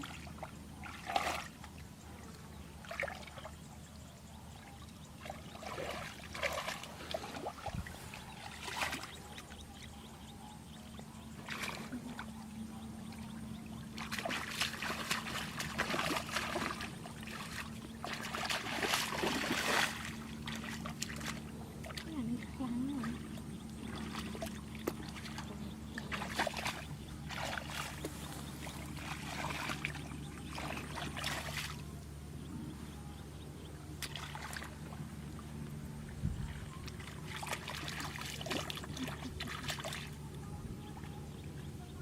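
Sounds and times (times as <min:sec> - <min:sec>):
water trickling and splashing: 0:00.0 - 0:03.9, 0:04.5 - 0:10.1, 0:10.8 - 0:32.1, 0:34.0 - 0:41.8
faint steady hum: 0:00.0 - 0:42.0.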